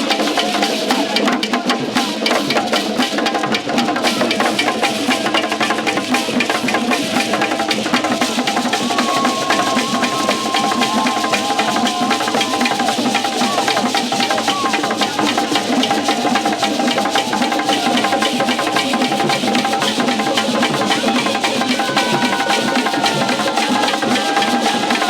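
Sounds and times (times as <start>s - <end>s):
fast drumming: 0.0s - 25.0s
wood-block-like strikes: 1.6s - 25.0s.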